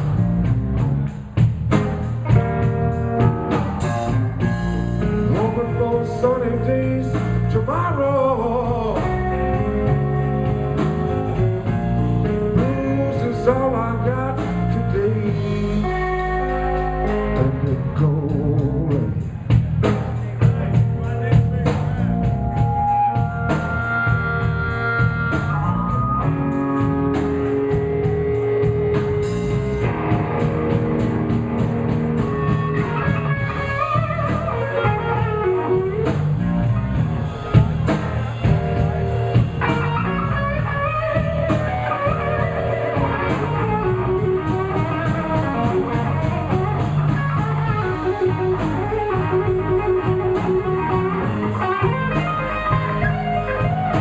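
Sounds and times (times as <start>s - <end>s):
blues band playing: 0.0s - 54.0s
drum kit beat: 0.0s - 54.0s
lead guitar bent notes: 0.0s - 54.0s.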